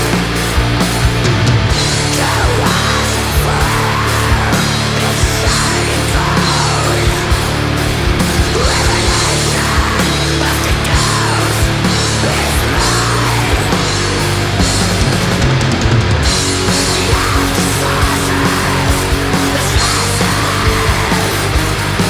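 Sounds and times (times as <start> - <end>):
distorted guitars: 0.0 - 22.0
drums: 0.0 - 22.0.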